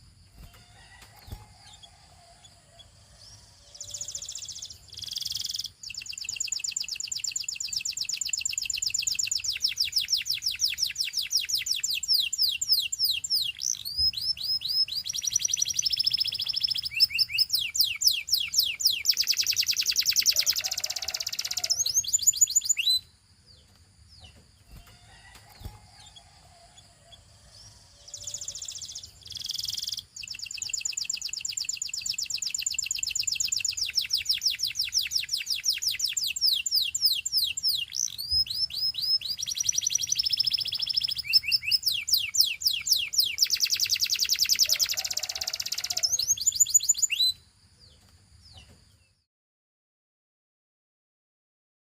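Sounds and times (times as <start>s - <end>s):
canary singing trills: 0.0s - 49.1s.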